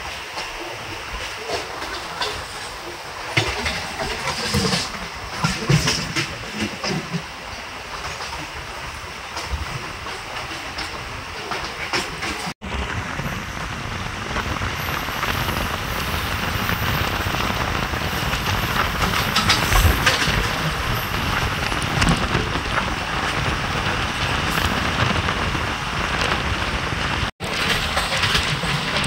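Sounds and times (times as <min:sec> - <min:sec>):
electric train running on track: 0:00.0 - 0:29.0
wheels clicking and knocking: 0:00.0 - 0:29.0.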